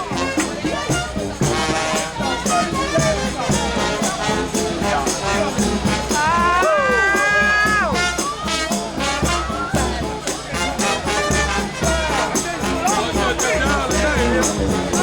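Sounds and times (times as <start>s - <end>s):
bass drum and snare beat: 0.0s - 15.0s
brass band playing: 0.0s - 15.0s.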